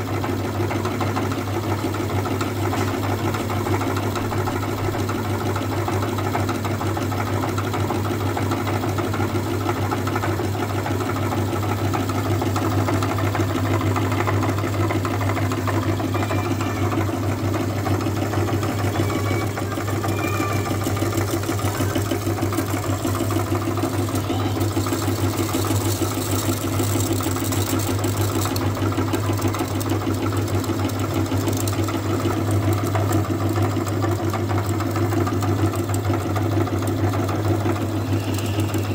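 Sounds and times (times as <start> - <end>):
meat grinder motor humming: 0.0 - 38.9.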